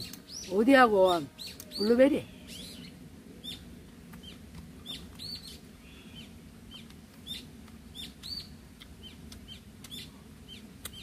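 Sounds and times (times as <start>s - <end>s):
songbird chirps: 0.0s - 11.0s.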